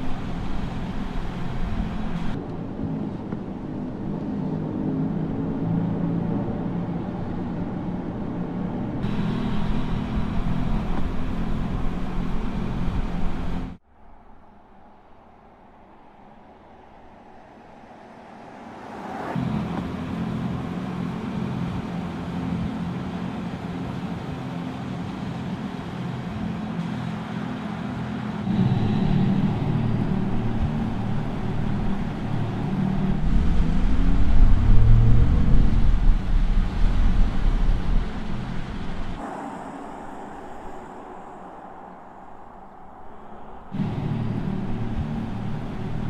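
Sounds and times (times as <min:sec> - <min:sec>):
synthetic electric car hum: 0:00.0 - 0:46.0.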